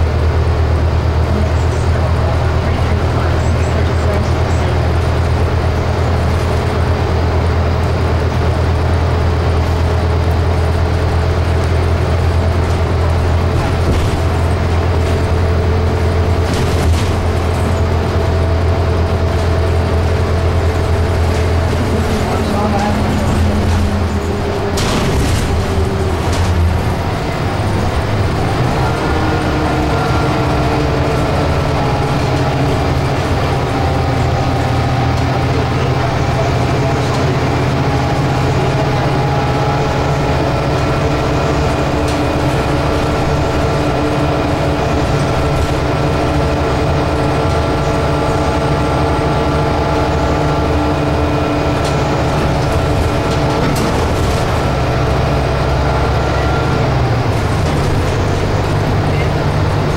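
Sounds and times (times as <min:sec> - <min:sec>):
bus engine drone: 0:00.0 - 0:59.9
road and rattle noise: 0:00.0 - 0:59.9.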